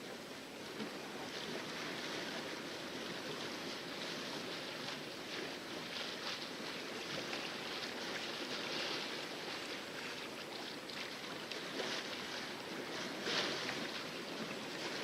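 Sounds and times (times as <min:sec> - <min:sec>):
water splashing against a hull: 0:00.0 - 0:15.0.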